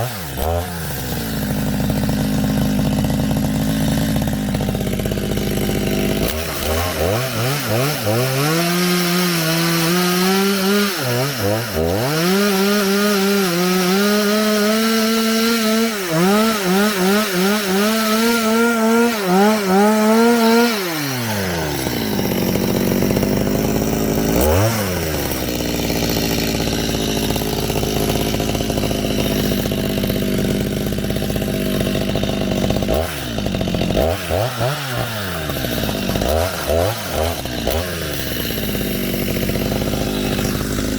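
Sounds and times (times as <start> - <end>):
chainsaw engine revving and idling: 0.0 - 40.9.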